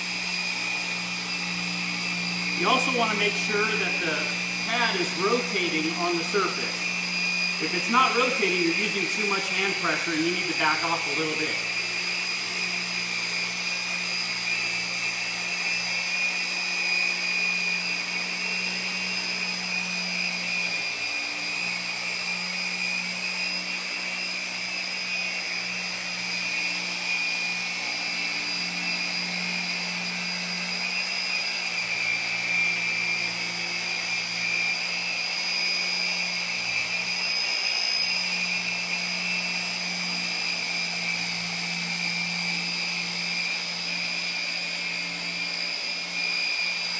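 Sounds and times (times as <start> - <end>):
orbital polisher whining: 0.0 - 46.9.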